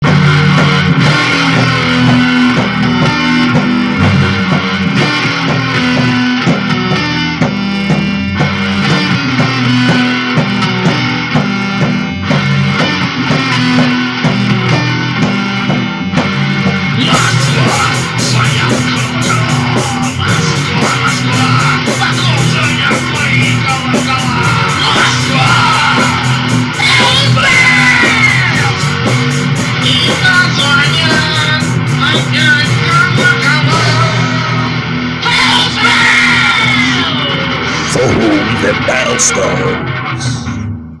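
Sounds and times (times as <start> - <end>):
bass: 0.0 - 41.0
drums: 0.0 - 41.0
electric guitar: 0.0 - 41.0.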